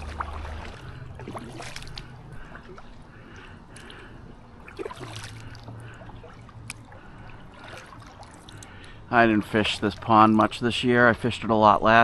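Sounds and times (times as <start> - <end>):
paddle dipping in water: 0.0 - 11.2
soft splashes: 0.0 - 11.3.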